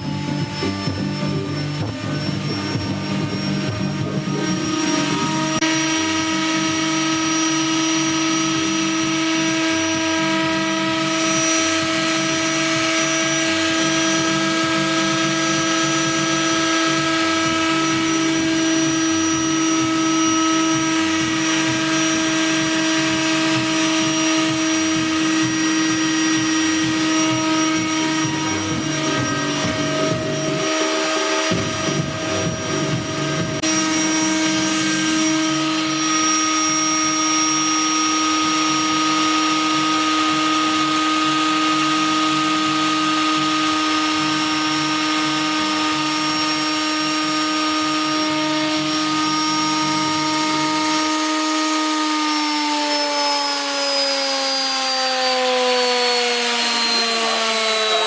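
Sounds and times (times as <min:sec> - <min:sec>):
machine-like drone over loudspeakers: 0:00.0 - 0:58.0.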